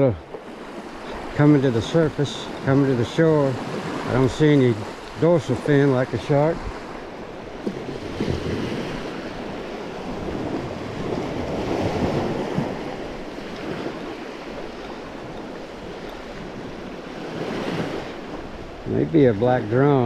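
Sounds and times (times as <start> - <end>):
waves breaking on beach: 0.0 - 20.0
wind buffeting microphone: 0.0 - 20.0.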